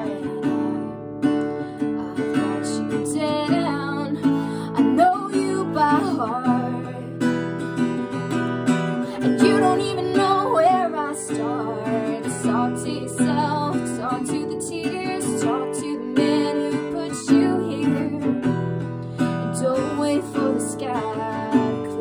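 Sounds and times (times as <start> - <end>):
woman singing: 0.0 - 8.0, 8.9 - 22.0
strummed acoustic guitar: 0.0 - 22.0.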